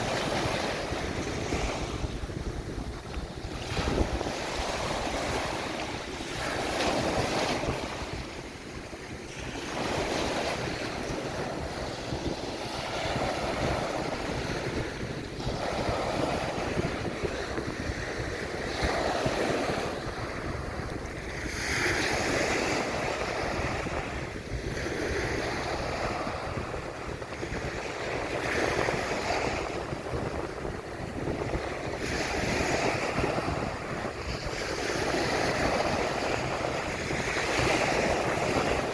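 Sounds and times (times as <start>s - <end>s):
small waves breaking on sand: 0.0s - 38.9s
wind rumbling on microphone: 0.0s - 38.9s.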